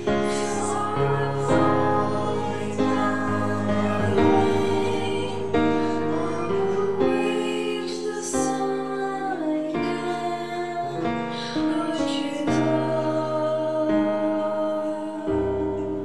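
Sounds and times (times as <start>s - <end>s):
voices singing church song: 0.0s - 16.0s.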